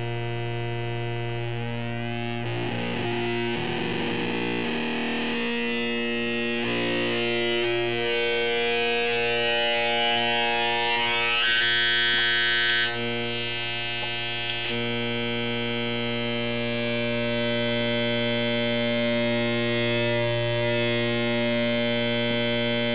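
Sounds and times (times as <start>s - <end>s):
buzzy synth tone with filter sweep: 0.0s - 22.9s.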